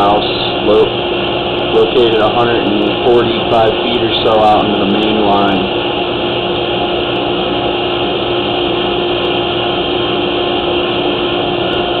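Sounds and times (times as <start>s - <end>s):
machine drone: 0.0s - 12.0s.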